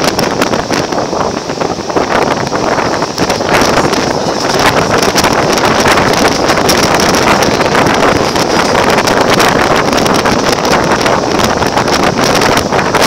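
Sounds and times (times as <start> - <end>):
train carriages on rails: 0.0 - 13.0
wind buffeting microphone: 0.0 - 13.0.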